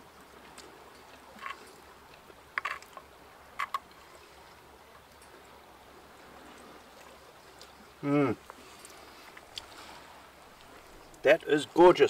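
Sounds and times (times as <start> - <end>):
faint running water: 0.0 - 12.0.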